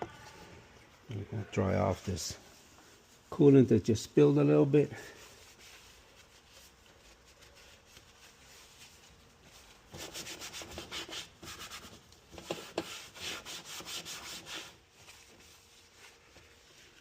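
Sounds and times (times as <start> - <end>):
rag wiping: 1.6 - 17.0.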